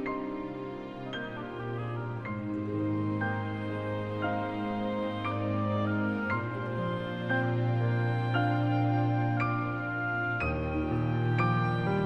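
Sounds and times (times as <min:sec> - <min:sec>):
slow gentle music: 0:00.0 - 0:12.0.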